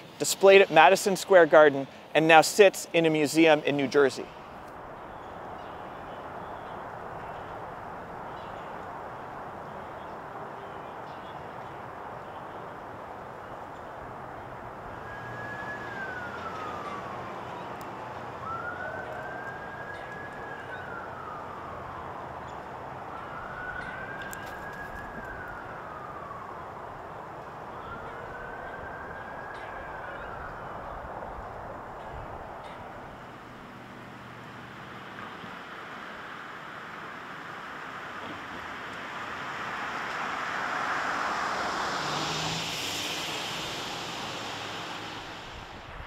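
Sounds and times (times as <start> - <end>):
emergency vehicle siren wailing: 0.0 - 46.0
outdoor background noise: 0.0 - 46.0.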